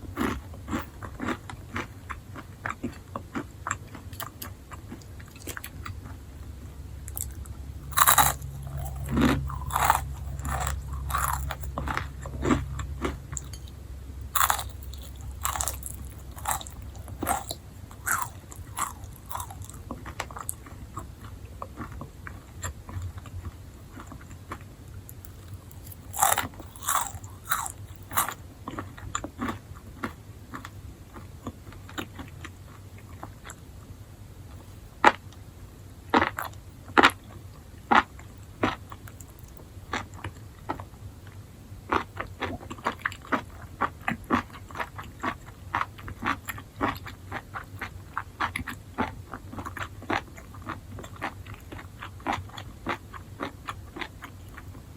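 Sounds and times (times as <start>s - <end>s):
mushrooms being chewed crunchily: 0.0s - 33.9s, 36.1s - 54.9s
low steady hum: 0.0s - 54.9s.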